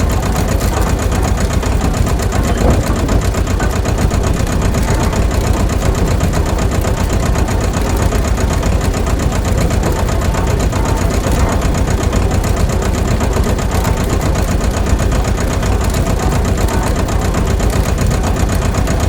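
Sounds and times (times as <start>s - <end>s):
small motor running: 0.0s - 19.0s.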